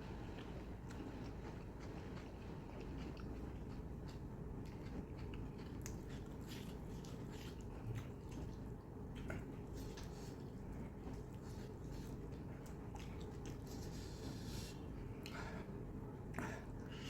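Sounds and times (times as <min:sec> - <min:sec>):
low steady hum: 0:00.0 - 0:17.0
person chewing food: 0:00.0 - 0:17.0.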